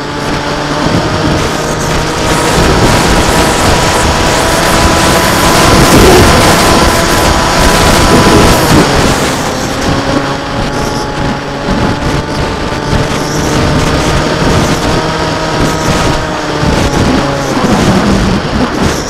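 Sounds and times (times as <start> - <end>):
electric motor and propeller whining: 0.0 - 19.0
wind rush on microphone: 0.0 - 19.0.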